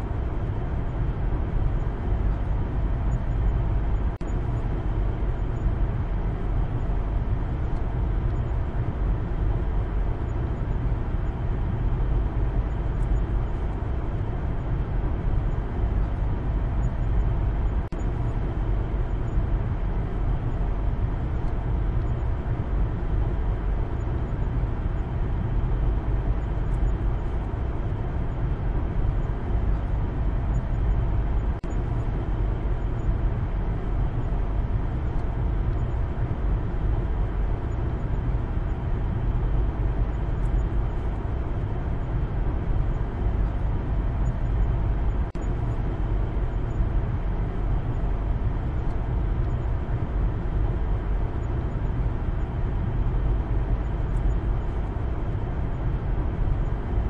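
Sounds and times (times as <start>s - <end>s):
car engine and tyre road noise: 0.0s - 57.0s.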